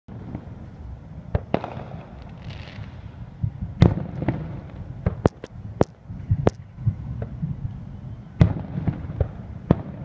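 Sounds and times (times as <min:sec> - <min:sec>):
fireworks bursting: 0:00.1 - 0:07.6, 0:08.4 - 0:10.0
low rumble: 0:00.1 - 0:08.6.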